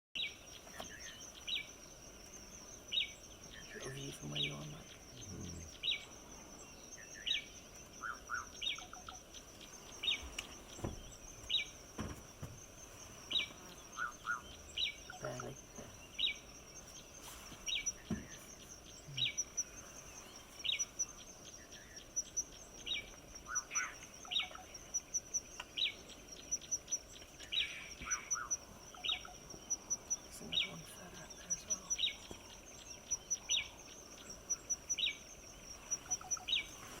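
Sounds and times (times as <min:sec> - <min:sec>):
birds calling: 0:00.2 - 0:37.0
high insect trill: 0:00.2 - 0:37.0.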